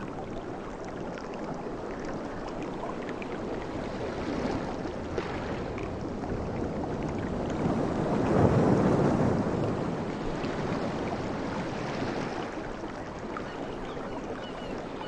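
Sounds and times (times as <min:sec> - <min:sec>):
water gurgling and trickling: 0:00.0 - 0:15.0
waves washing on shore: 0:00.0 - 0:15.0.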